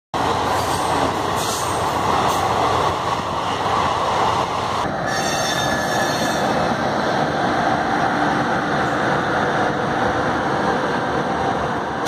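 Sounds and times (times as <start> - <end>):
train crossing a bridge: 0.2 - 12.0
train wheels rushing on rails: 0.2 - 12.0.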